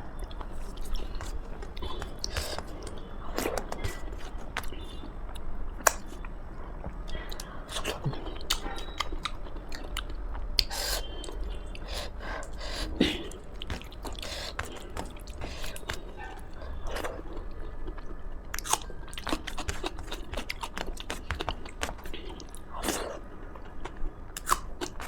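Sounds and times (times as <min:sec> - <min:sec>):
person chewing food: 0:00.1 - 0:25.0.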